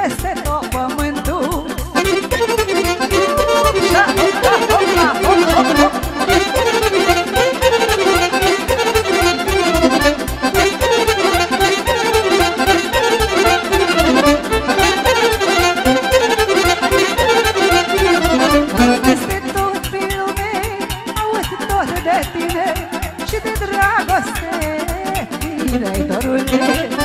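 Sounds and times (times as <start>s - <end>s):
folk music with violin and accordion: 0.0s - 27.0s.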